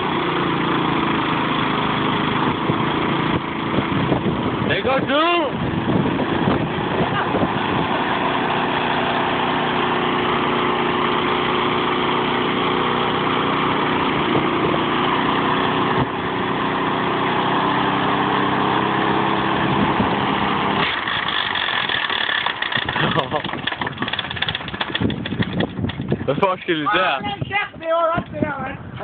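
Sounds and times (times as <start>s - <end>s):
lawnmower engine running: 0.0s - 29.0s.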